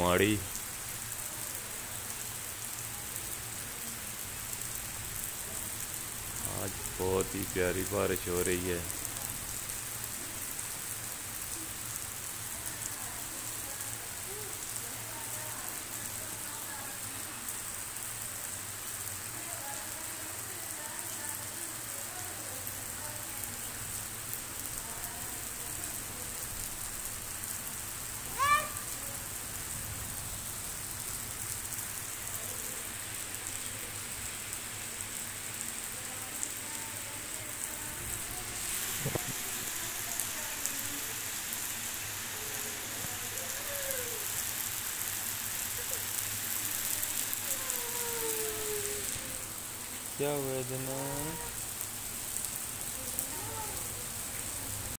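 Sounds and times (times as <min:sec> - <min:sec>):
rain falling on concrete: 0:00.0 - 0:54.9.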